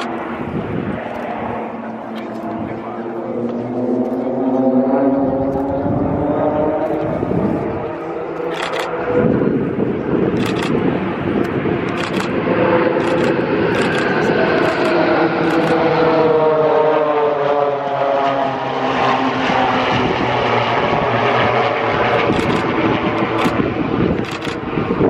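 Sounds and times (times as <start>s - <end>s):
propeller aircraft flying past: 0.0s - 25.0s.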